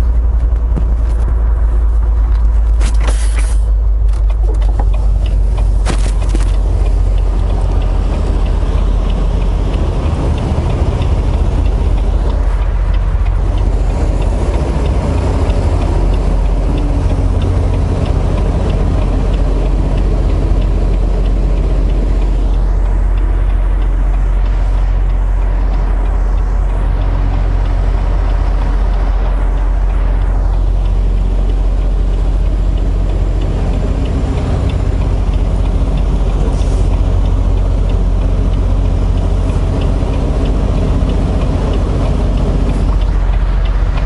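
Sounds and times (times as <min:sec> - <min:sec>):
diesel engine low rumble: 0:00.0 - 0:44.0.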